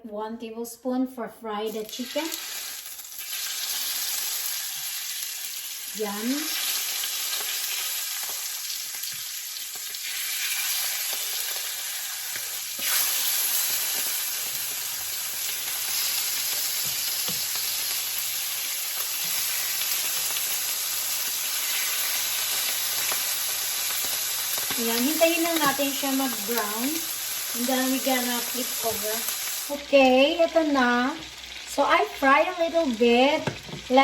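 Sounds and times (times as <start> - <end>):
chicken sizzling in a pan: 1.7 - 34.0.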